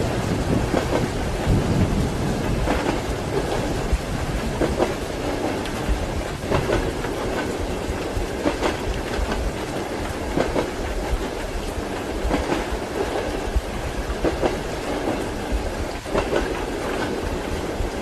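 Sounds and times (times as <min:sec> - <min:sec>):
clickety-clack knocks: 0:00.0 - 0:18.0
train wheels rumbling: 0:00.0 - 0:18.0.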